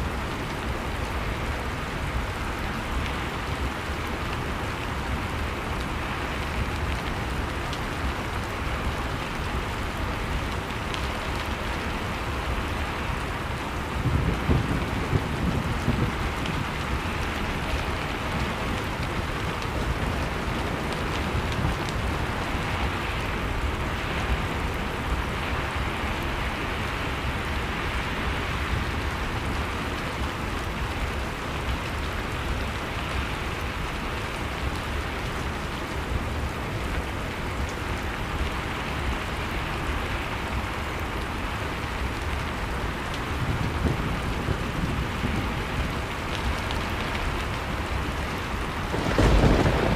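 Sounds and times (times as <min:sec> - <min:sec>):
blizzard wind with low rumble: 0:00.0 - 0:49.9.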